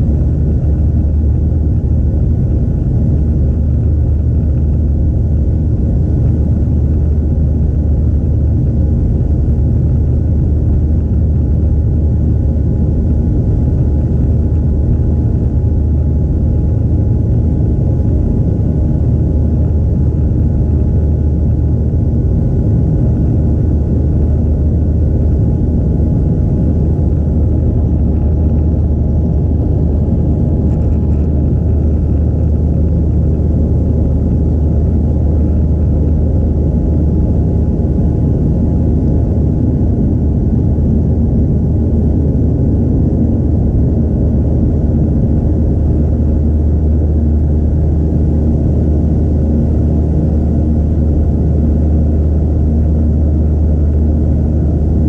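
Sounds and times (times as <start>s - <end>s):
airplane cabin low rumble: 0.0s - 55.0s
faint jet engine whine: 0.0s - 55.0s.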